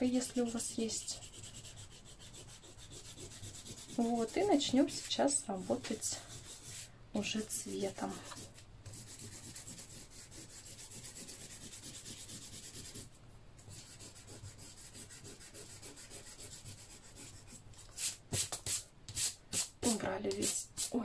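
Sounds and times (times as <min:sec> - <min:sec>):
eraser rubbing on paper: 0:00.2 - 0:06.9, 0:07.8 - 0:13.1, 0:13.7 - 0:21.0.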